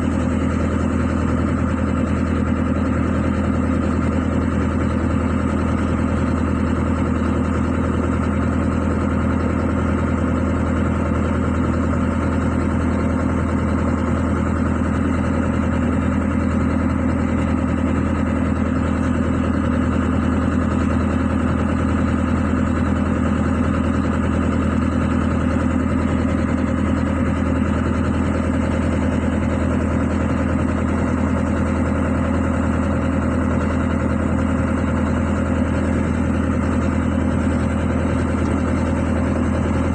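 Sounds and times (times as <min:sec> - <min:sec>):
excavator diesel engine idling: 0:00.0 - 0:39.9.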